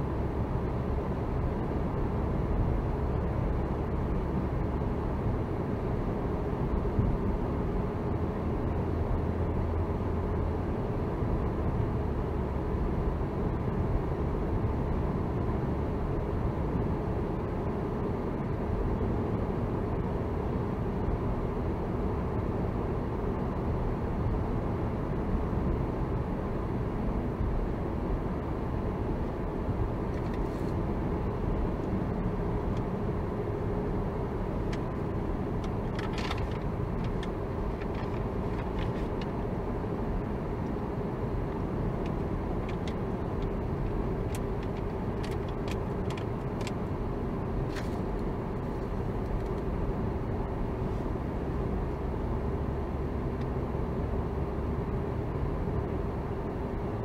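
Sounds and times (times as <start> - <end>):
car tyre and engine noise: 0.0 - 57.0.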